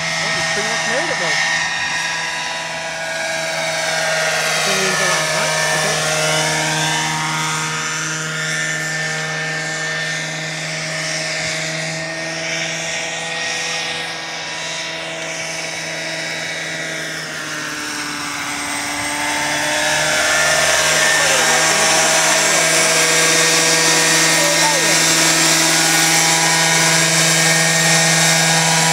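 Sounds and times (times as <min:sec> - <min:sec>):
model helicopter engine and rotor drone: 0:00.0 - 0:28.9.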